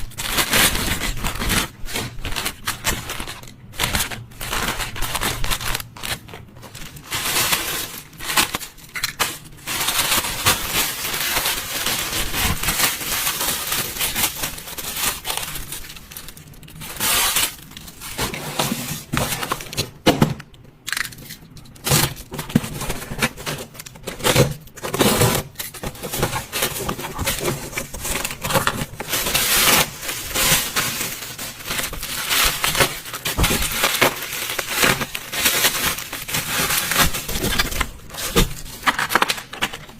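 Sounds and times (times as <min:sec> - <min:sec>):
crinkling and knocking of handling: 0:00.0 - 0:39.9.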